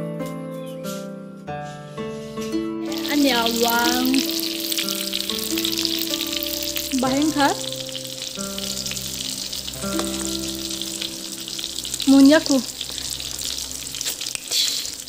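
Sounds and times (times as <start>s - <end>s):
background music: 0.0s - 15.0s
rice sizzling in a wok: 2.8s - 15.0s.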